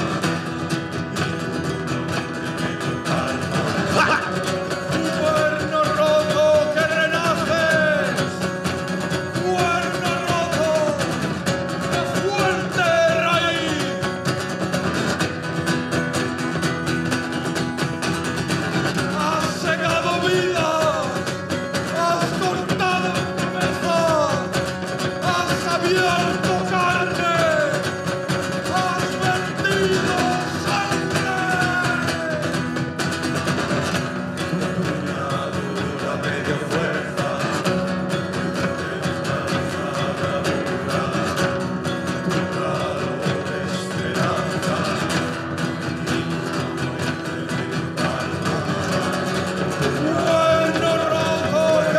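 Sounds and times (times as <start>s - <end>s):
strummed acoustic guitar: 0.0s - 51.9s.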